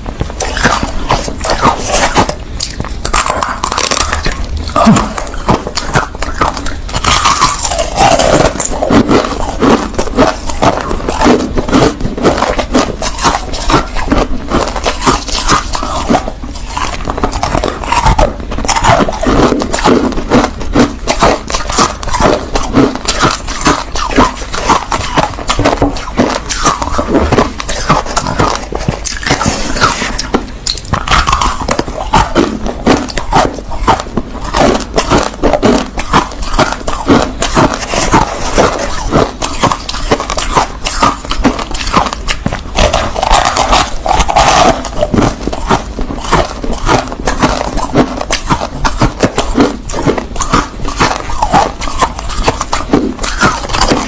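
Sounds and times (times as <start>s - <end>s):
chewing crushed ice: 0.0s - 54.0s.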